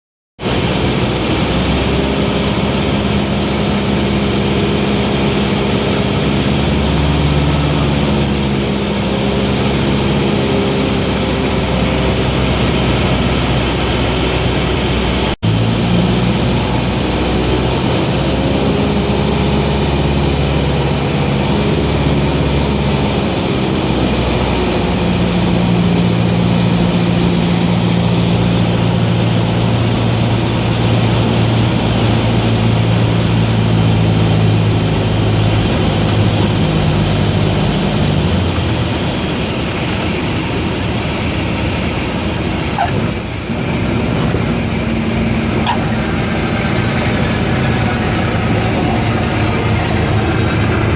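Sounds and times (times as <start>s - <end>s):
propeller plane engine: 0.4s - 50.9s.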